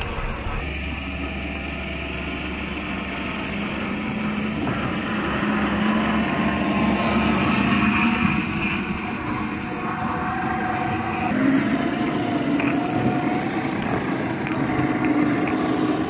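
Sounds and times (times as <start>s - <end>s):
rc truck motor whine: 0.0s - 16.0s.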